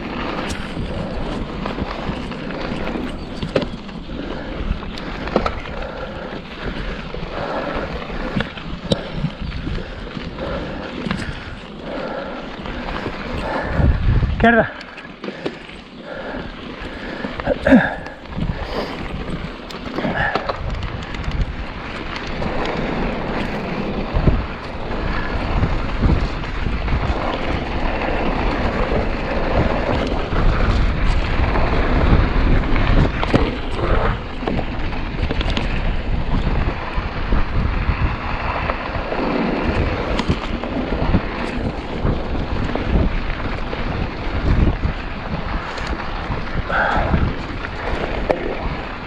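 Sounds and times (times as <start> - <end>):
constant rumble: 0.0 - 49.0
wind buffeting microphone: 0.0 - 49.0.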